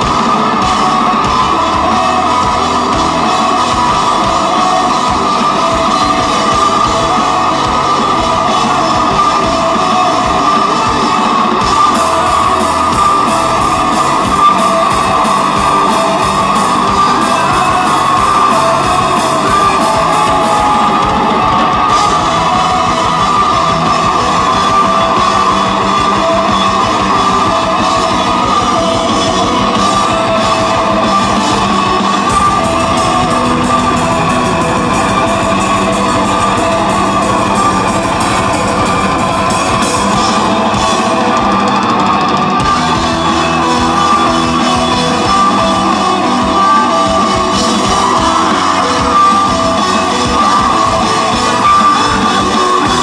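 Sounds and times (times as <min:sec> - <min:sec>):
metal band playing loud: 0:00.0 - 0:53.0.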